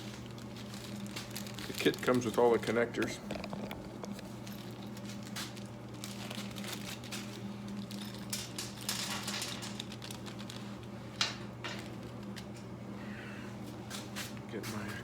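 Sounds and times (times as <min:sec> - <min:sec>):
plastic packaging crinkling: 0:00.0 - 0:12.4
steady low hum: 0:00.0 - 0:15.0.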